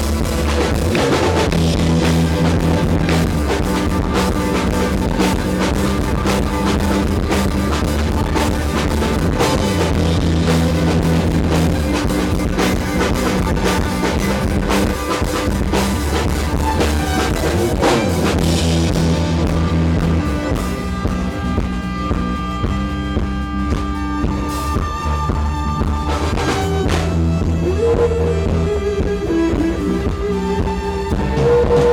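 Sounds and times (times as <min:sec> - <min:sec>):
bass guitar: 0:00.0 - 0:31.9
drum kit: 0:00.0 - 0:31.9
electric guitar: 0:00.0 - 0:31.9.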